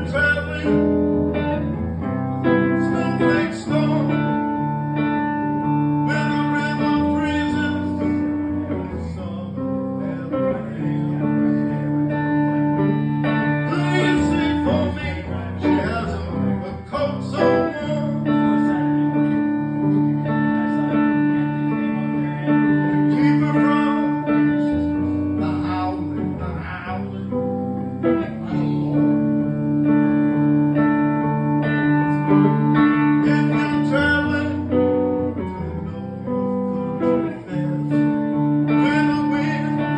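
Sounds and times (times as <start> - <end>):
electric guitar strumming chords: 0.0 - 39.9.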